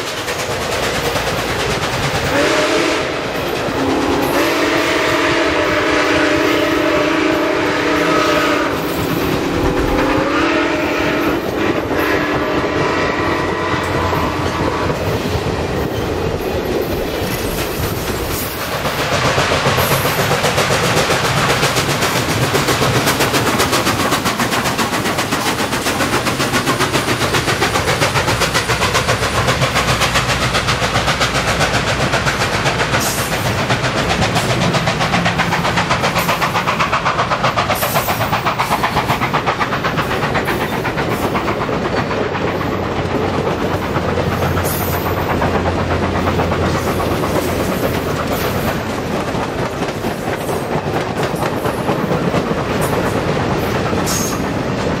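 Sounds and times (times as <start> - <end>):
steam locomotive chuffing: 0.0 - 55.0
train wheels clickety-clack: 0.0 - 55.0.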